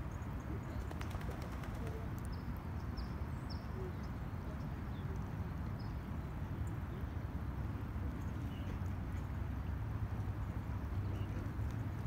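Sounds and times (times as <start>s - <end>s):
distant city traffic: 0.0s - 12.0s.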